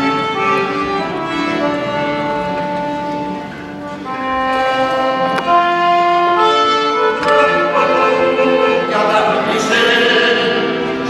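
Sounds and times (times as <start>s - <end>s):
acoustic guitar: 0.0s - 11.0s
trombones: 0.0s - 11.0s
violin: 0.0s - 11.0s.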